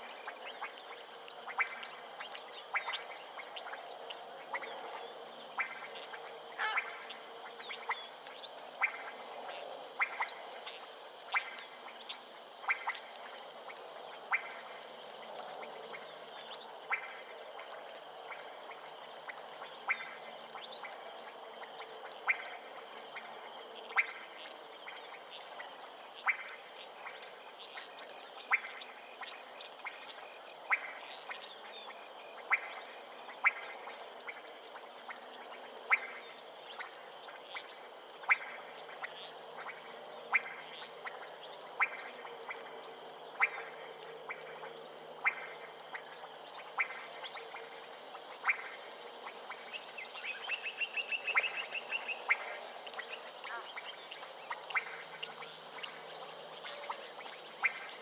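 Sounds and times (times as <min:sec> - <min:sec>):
frogs calling: 0:00.0 - 0:58.0.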